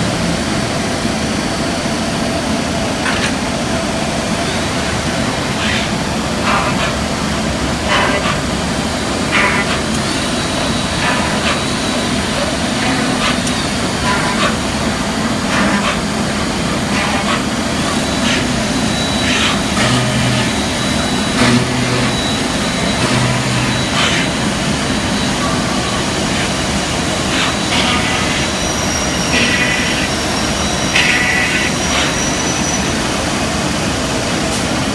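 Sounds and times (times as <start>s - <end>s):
cnc router running: 0.0s - 34.9s.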